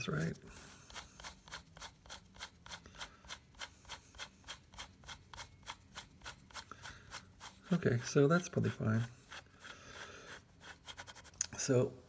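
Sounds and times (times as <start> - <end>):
quick hand rubbing strokes: 0.0 - 11.3.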